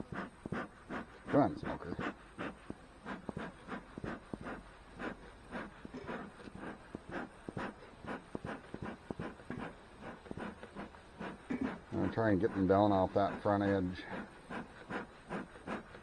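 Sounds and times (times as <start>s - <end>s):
bellows puffing air: 0.0s - 16.0s.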